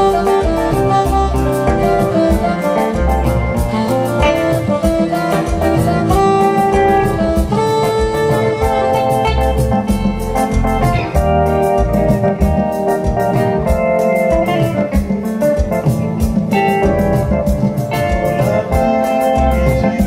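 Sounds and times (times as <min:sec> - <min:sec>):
bass line: 0:00.0 - 0:20.0
electric guitar: 0:00.0 - 0:20.0
organ-like keyboard chords: 0:00.0 - 0:20.0
steady beat: 0:00.0 - 0:20.0.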